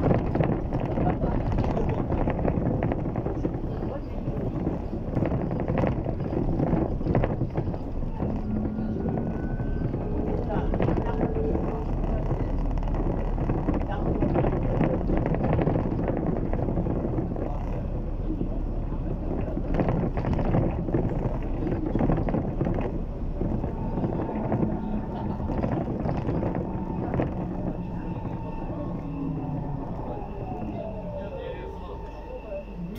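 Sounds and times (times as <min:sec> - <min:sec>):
rumble of tyres on road: 0:00.0 - 0:32.9
steady whine: 0:00.0 - 0:32.9.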